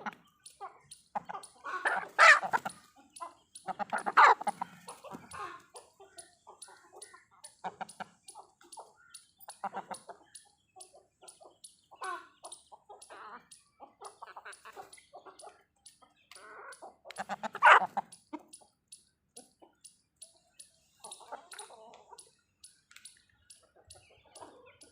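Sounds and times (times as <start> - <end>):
chickens clucking: 0.0 - 24.9.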